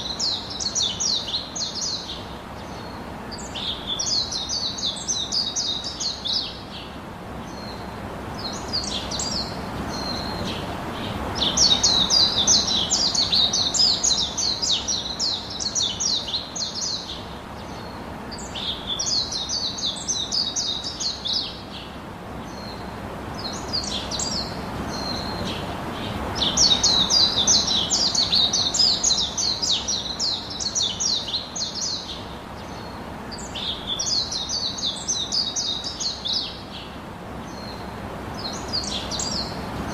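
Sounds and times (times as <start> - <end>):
birds chirping: 0.0 - 39.9
steady background hiss: 0.0 - 39.9.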